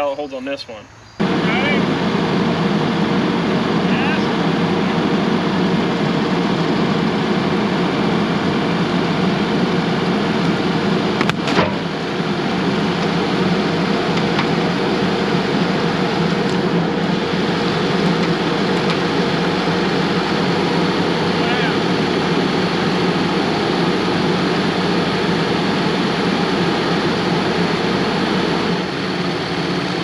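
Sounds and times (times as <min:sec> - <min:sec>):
bulldozer diesel engine running: 0:01.1 - 0:30.0.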